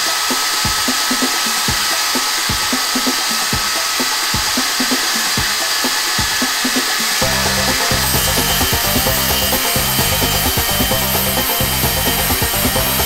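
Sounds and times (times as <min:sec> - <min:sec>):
angle grinder cutting plywood: 0:00.0 - 0:13.0.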